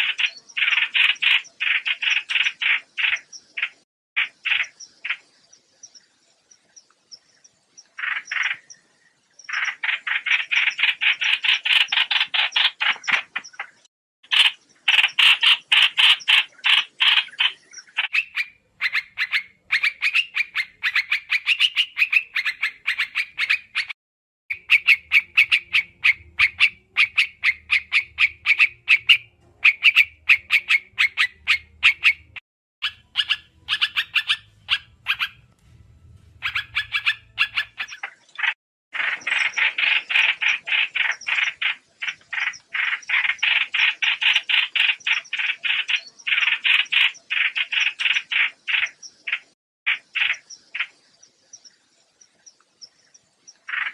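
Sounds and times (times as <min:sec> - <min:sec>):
bird chattering calls: 0:00.0 - 0:05.3, 0:07.9 - 0:08.8, 0:09.5 - 0:35.5, 0:36.3 - 0:51.0, 0:53.5 - 0:53.9.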